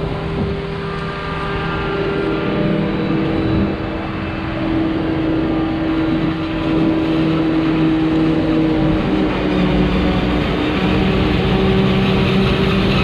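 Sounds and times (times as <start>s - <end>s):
diesel engines running under load: 0.0s - 13.0s
mechanical whine: 0.0s - 13.0s.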